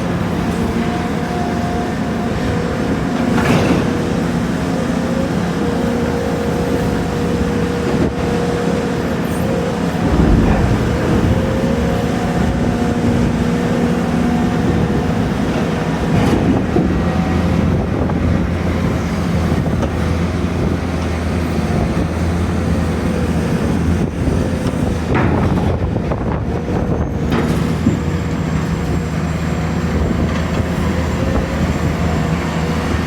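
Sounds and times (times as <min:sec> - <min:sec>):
excavator engine drone: 0:00.0 - 0:33.0
hydraulic whine: 0:00.0 - 0:33.0.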